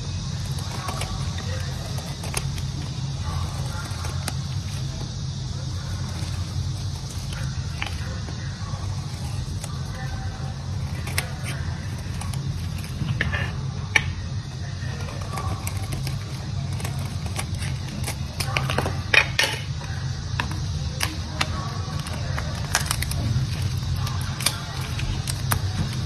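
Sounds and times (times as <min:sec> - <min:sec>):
soap crumbling crackles: 0:00.0 - 0:26.0
steady low hum: 0:00.0 - 0:26.0.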